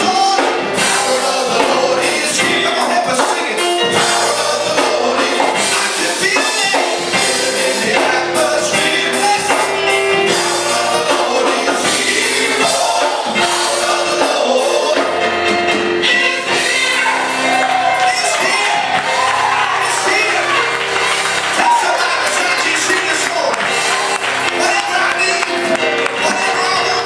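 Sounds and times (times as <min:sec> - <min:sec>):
instrumental accompaniment: 0:00.0 - 0:27.0
voices singing together: 0:00.0 - 0:27.0.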